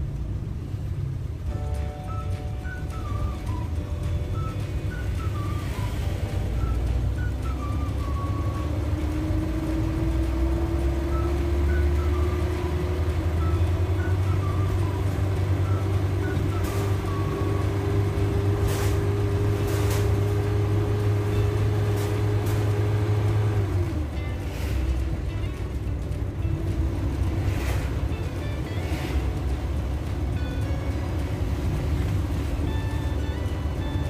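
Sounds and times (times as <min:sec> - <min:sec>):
van engine rumbling: 0:00.0 - 0:34.0.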